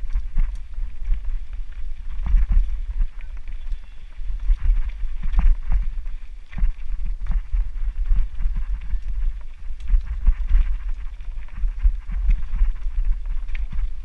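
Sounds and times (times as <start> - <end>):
mountain bike rattling over dirt: 0.0 - 14.0
wind rumble on microphone: 0.0 - 14.0.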